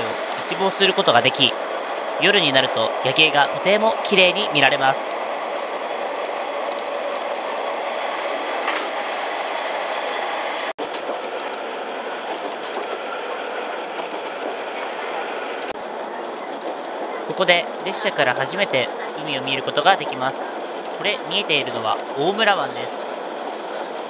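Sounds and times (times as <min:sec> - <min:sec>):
diesel railcar running noise: 0:00.0 - 0:24.0.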